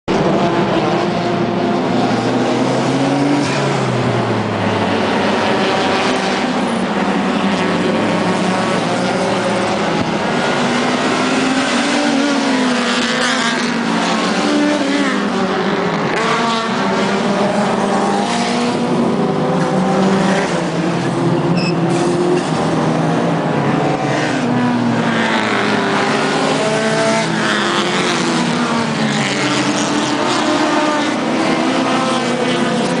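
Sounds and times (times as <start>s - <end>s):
racing car engines at high revs: 0.1s - 33.0s.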